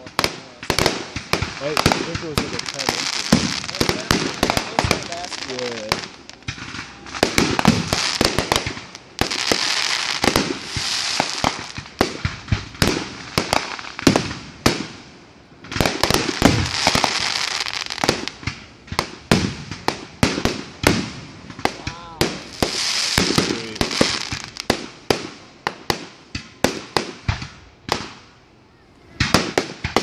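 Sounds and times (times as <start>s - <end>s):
fireworks bangs: 0.0s - 28.4s, 29.0s - 30.0s
fireworks crackling: 0.0s - 30.0s.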